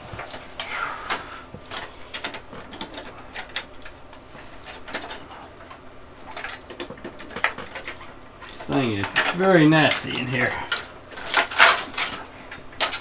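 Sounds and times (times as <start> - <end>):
cables and plastic connectors rattling: 0.0 - 13.0.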